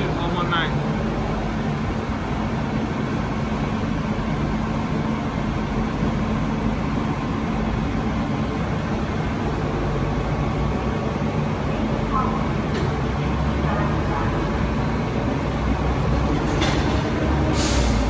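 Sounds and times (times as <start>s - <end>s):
low hum and rushing noise: 0.0s - 18.0s.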